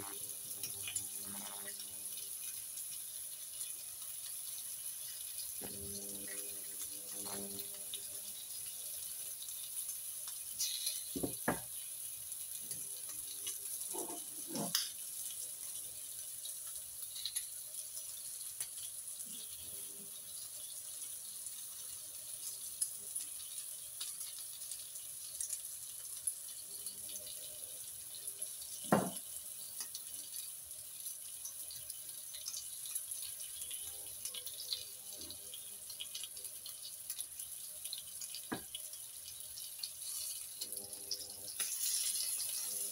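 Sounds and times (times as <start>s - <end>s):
bacon sizzling in a frying pan: 0.0s - 42.9s.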